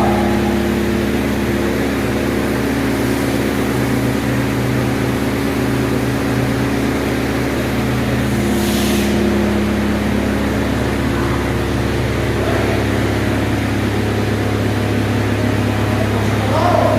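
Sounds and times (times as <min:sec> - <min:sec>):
mortar spraying machine humming: 0:00.0 - 0:16.9.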